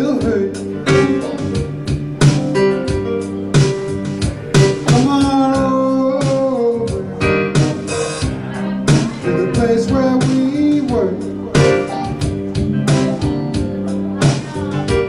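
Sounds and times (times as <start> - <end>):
live blues band playing: 0.0 - 15.0.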